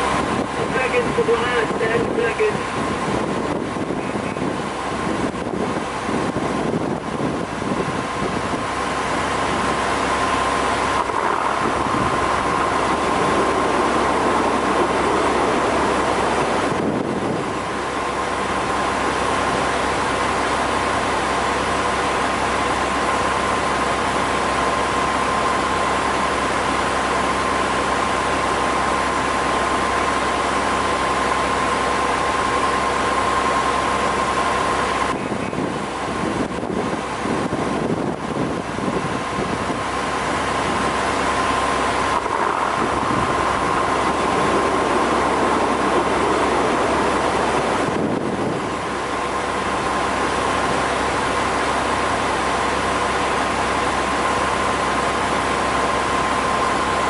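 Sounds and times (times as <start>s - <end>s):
heavy diesel machinery droning: 0.0s - 57.0s.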